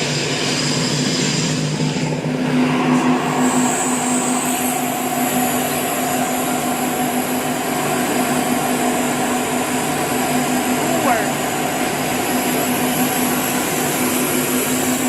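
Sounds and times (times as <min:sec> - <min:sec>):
grinding machine running: 0:00.0 - 0:15.0.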